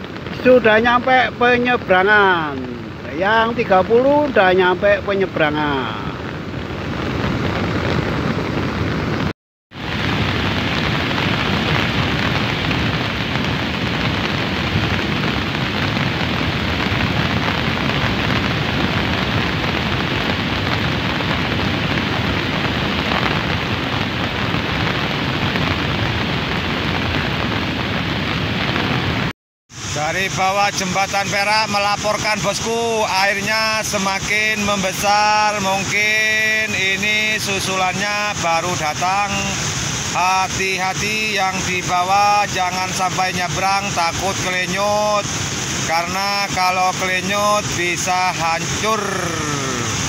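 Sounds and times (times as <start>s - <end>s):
rushing muddy flood water: 0.0s - 50.0s.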